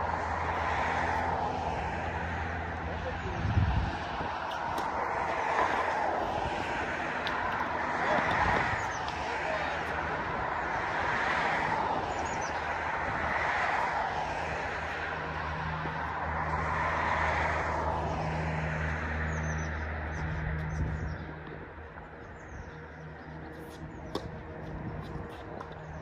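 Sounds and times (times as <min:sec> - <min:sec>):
engine hum: 0:00.0 - 0:26.0.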